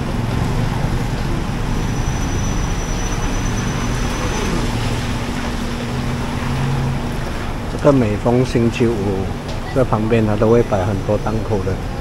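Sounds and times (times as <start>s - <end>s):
road rumble: 0.0s - 12.0s
vehicle engine hum: 0.0s - 12.0s.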